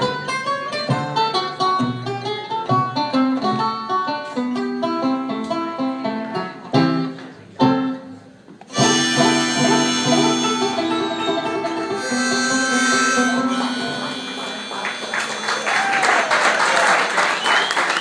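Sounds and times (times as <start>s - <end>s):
banjo playing: 0.0s - 16.0s.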